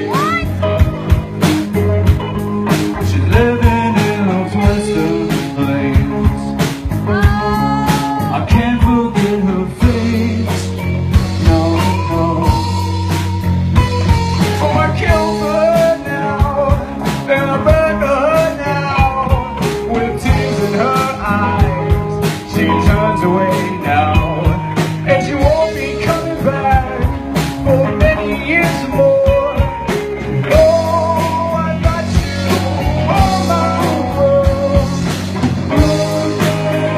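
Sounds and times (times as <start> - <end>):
psychedelic rock band playing: 0.0 - 36.9.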